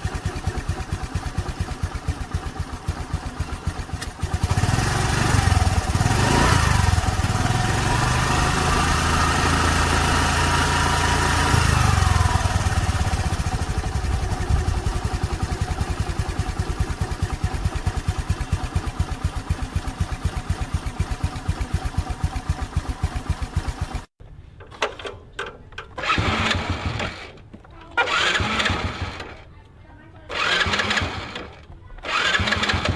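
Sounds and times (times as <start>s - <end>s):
scooter engine running: 0.0s - 24.1s, 26.0s - 29.5s, 30.3s - 32.9s.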